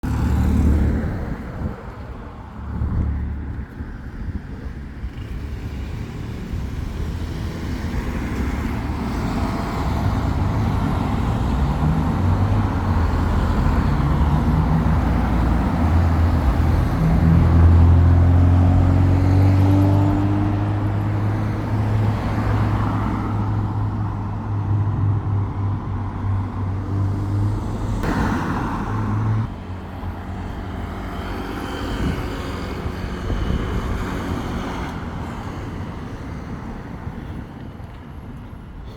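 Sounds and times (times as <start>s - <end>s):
road and wind noise: 0.0s - 38.9s
vehicles rushing past: 0.0s - 38.9s.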